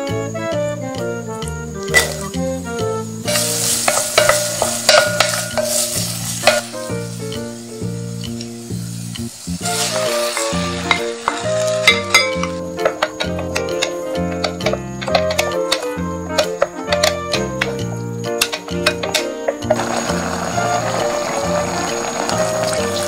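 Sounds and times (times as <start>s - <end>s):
background music: 0.0s - 23.0s
onion sizzling in butter: 1.0s - 23.0s.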